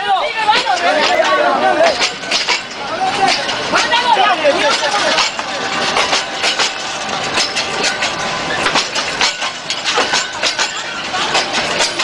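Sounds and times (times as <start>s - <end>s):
train rumble: 0.0s - 12.0s
train wheels clattering: 0.0s - 12.0s.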